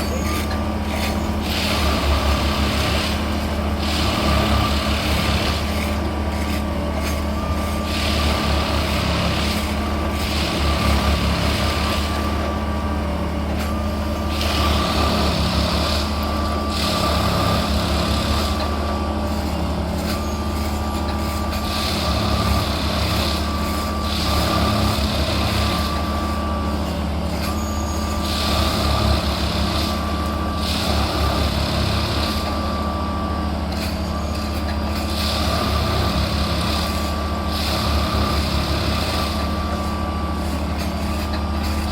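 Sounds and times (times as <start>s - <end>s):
diesel engine hum: 0.0s - 41.9s.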